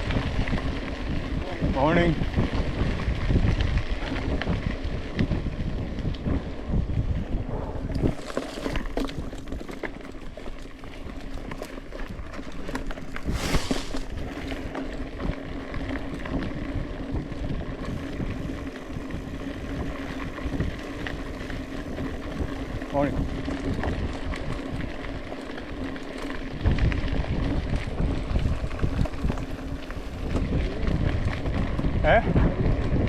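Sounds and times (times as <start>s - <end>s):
bike rattles and clicks: 0.0s - 33.0s
bike tyre noise: 0.0s - 33.0s
wind rumbling on microphone: 0.0s - 33.0s.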